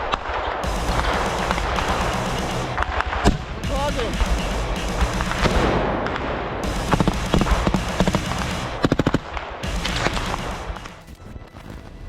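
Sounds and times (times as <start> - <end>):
rifle gunshots: 0.0 - 11.0
background music: 0.6 - 12.0.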